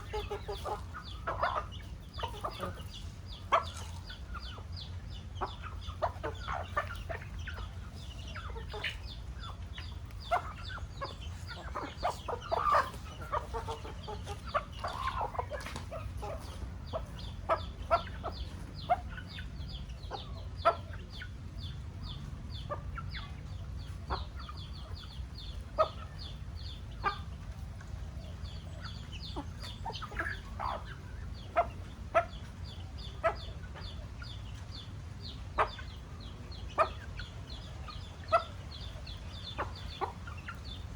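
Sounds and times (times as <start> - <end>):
chickens clucking and calling: 0.0 - 40.9.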